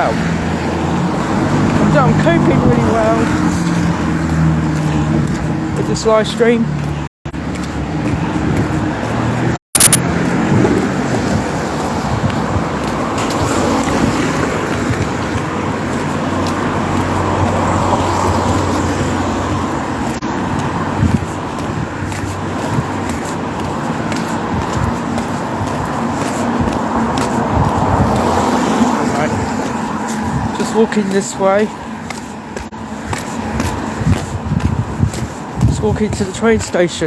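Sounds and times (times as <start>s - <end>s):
cars passing on street: 0.0s - 37.0s.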